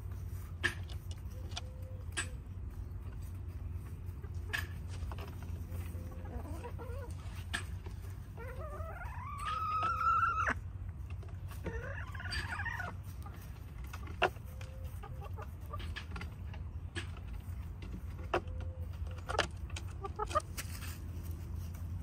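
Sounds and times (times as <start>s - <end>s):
feet and beaks clicking in straw: 0.0s - 22.0s
hens clucking: 0.0s - 22.0s.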